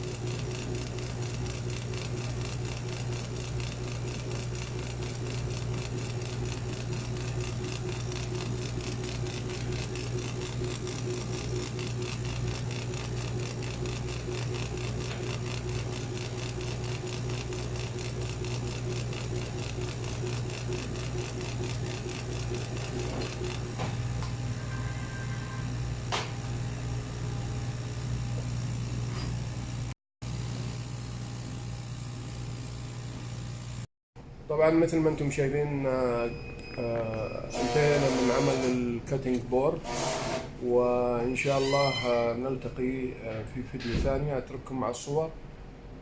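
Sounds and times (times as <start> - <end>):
cnc router humming and rattling: 0.0 - 33.9, 37.0 - 42.4.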